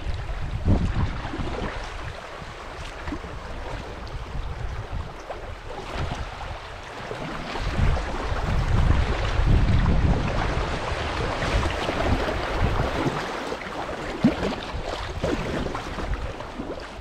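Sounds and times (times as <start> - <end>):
paddle splashes: 0.0 - 17.0
river rushing and burbling: 0.0 - 17.0
wind rumble on microphone: 0.0 - 17.0.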